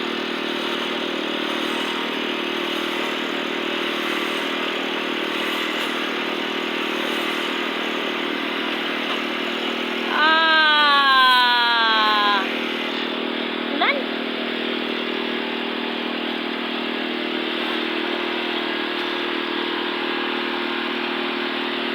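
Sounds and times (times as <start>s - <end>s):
concrete mixer engine droning: 0.0s - 21.9s.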